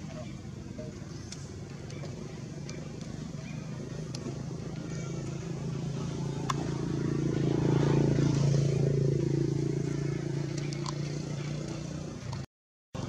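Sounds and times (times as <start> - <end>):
vehicle engine passing by: 1.5 - 12.4.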